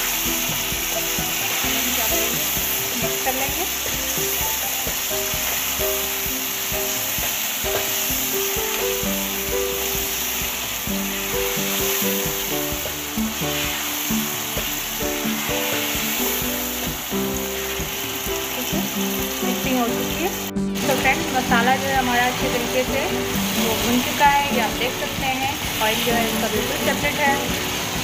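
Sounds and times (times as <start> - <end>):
meat sizzling in hot oil: 0.0 - 28.0
simple background melody: 0.0 - 28.0
spatula stirring: 0.0 - 28.0.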